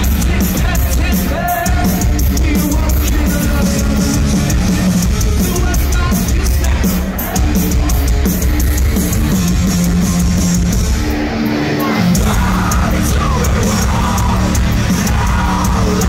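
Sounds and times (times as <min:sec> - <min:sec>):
distorted electric guitar: 0:00.0 - 0:16.0
loud metal band playing: 0:00.0 - 0:16.0.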